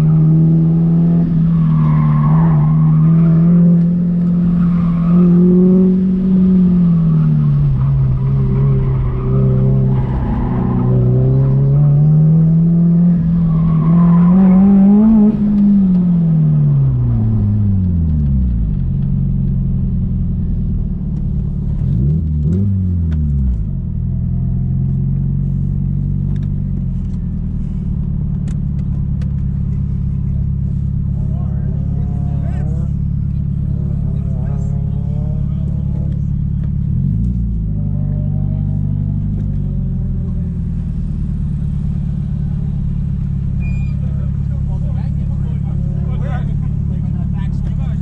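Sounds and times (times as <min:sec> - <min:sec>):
car engine revving and idling: 0:00.0 - 0:48.0.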